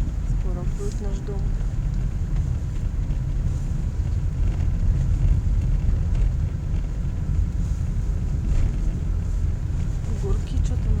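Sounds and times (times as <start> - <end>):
car engine and tyres rumbling: 0.0 - 11.0
wind buffeting microphone: 0.0 - 11.0.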